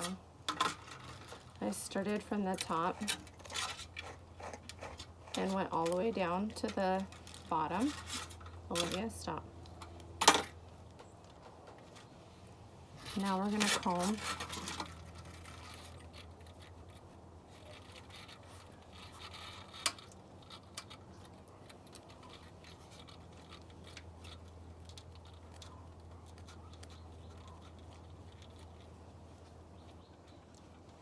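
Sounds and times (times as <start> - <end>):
comb scratching through fur: 1.2 - 9.1, 13.0 - 31.0.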